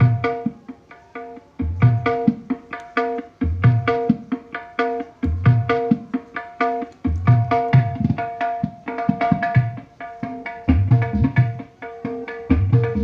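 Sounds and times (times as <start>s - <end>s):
hand-drum music over loudspeaker: 0.0s - 13.0s.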